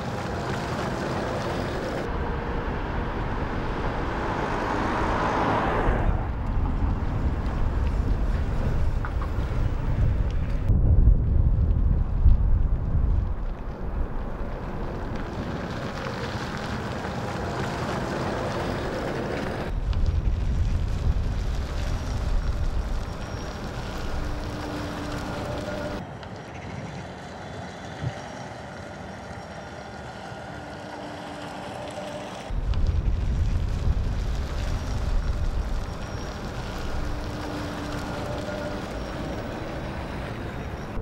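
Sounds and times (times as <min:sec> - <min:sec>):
road traffic noise: 0:00.0 - 0:10.7, 0:12.7 - 0:41.0
wind buffeting microphone: 0:00.0 - 0:26.0, 0:32.5 - 0:41.0.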